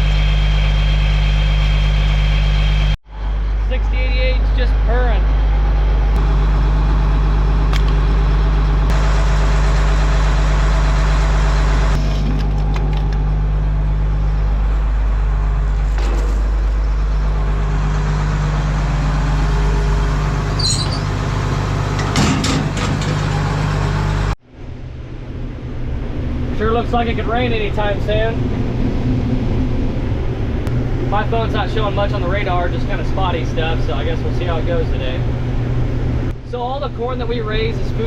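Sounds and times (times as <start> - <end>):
diesel engine idling: 0.0 - 24.4, 25.5 - 38.0.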